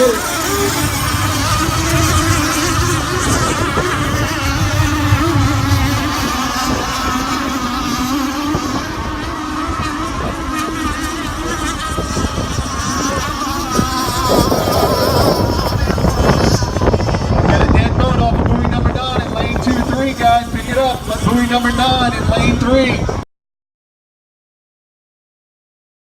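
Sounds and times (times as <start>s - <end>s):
rc boat engines whining: 0.0s - 23.2s.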